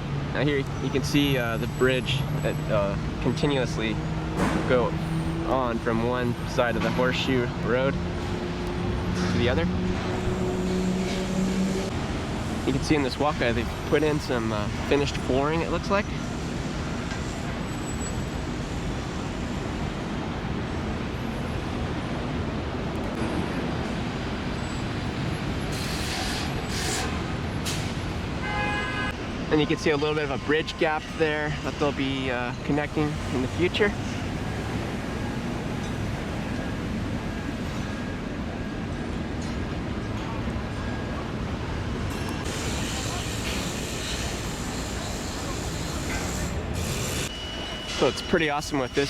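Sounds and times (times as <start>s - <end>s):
road traffic noise: 0.0s - 49.0s.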